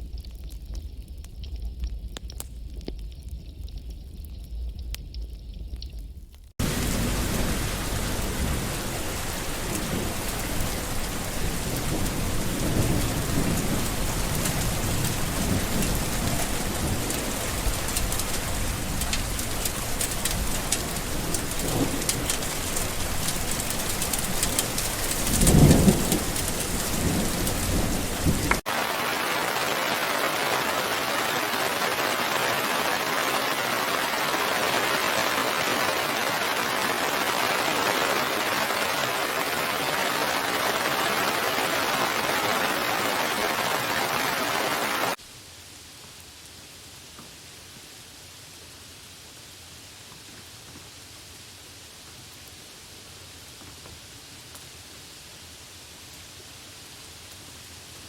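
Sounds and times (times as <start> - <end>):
heavy rain: 6.6 - 58.0.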